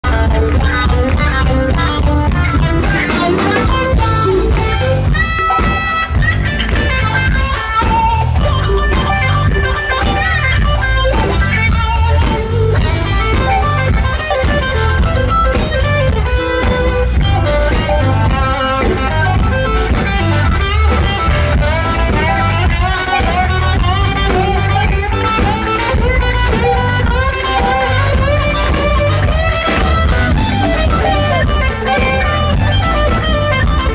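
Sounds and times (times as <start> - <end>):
drum kit: 0.0 - 33.9
electric guitar lead line: 0.0 - 33.9.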